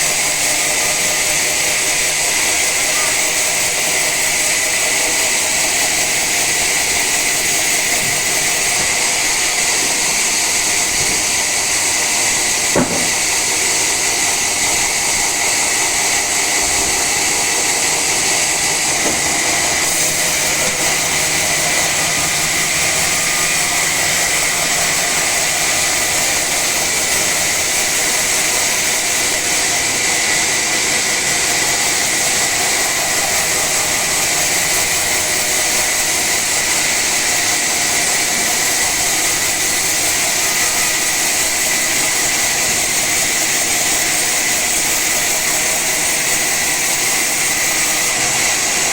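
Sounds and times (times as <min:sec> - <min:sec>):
sawmill saw cutting log: 0:00.0 - 0:48.9.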